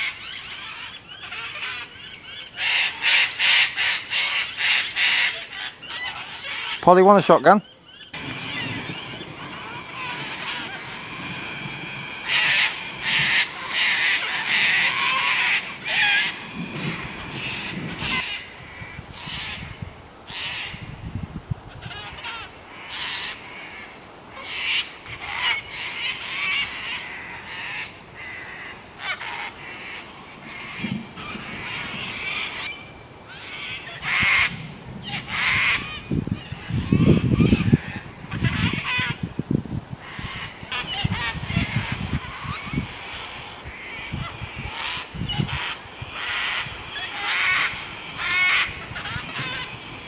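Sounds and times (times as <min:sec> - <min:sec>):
cockatoos screeching: 0:00.0 - 0:07.2, 0:07.8 - 0:18.6, 0:21.7 - 0:39.3, 0:40.0 - 0:50.0.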